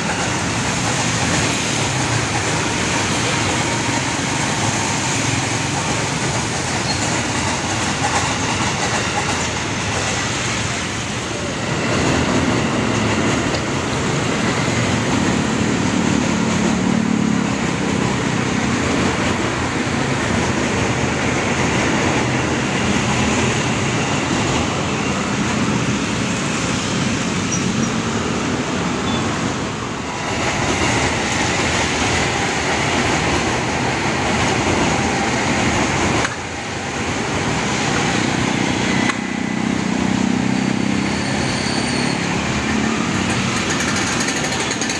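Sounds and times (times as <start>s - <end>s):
road traffic: 0.0s - 44.9s
train wheels on rail: 0.0s - 44.9s.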